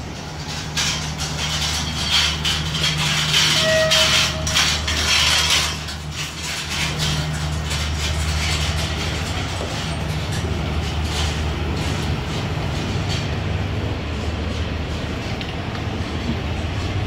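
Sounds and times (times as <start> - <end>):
diesel train engine drone: 0.0 - 17.0
train rumble: 0.0 - 17.0.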